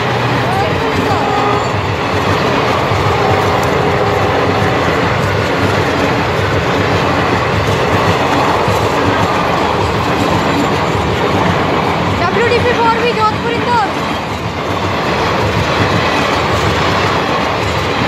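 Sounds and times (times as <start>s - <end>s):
train wheels running on rails: 0.0s - 18.0s.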